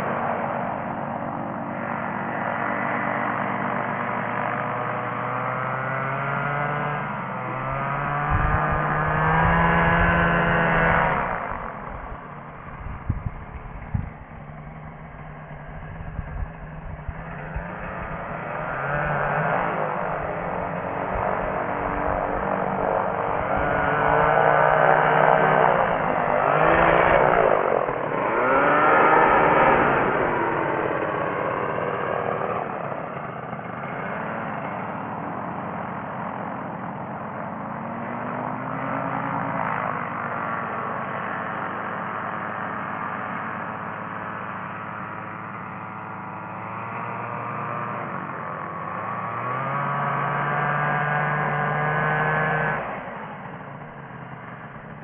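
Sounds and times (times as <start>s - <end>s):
ultralight engine and propeller: 0.0s - 55.0s.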